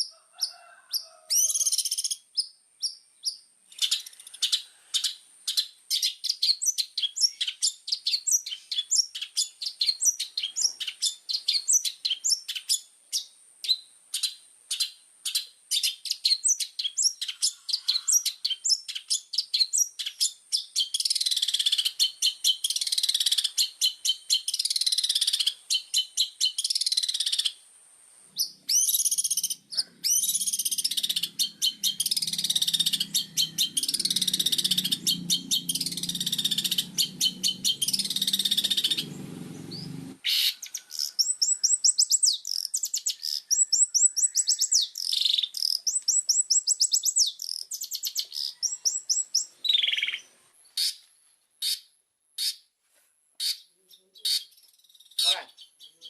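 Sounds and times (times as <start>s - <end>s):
bird chirping and chattering: 0.0s - 27.6s, 28.4s - 50.2s, 53.4s - 56.0s.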